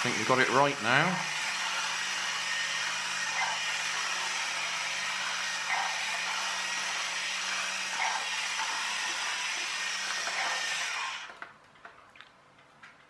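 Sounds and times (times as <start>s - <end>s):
whir of small motor and gears: 0.0s - 11.5s.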